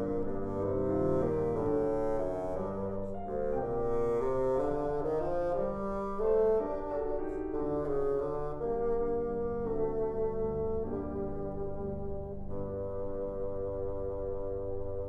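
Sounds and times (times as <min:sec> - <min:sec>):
bassoon sustained notes: 0:00.0 - 0:15.0
piano playing: 0:00.0 - 0:15.0.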